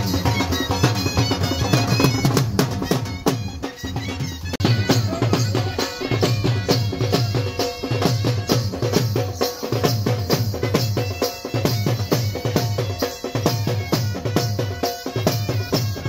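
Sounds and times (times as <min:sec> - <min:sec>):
dhol drum beating: 0:00.0 - 0:16.0
wind instrument melody: 0:00.0 - 0:16.0.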